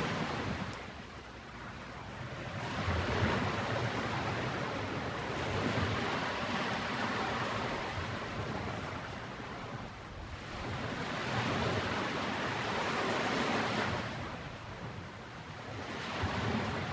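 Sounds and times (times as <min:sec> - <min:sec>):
ocean waves breaking: 0:00.0 - 0:16.9.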